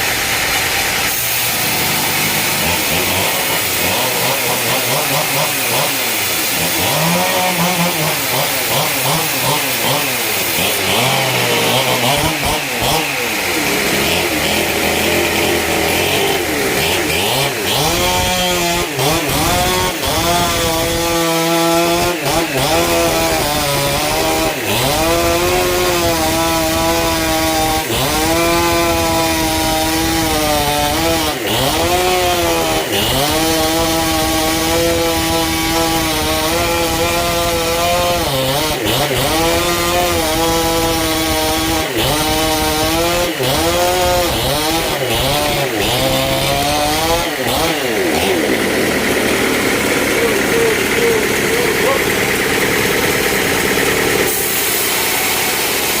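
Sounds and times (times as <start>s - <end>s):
chainsaw cutting timber: 0.0s - 56.0s.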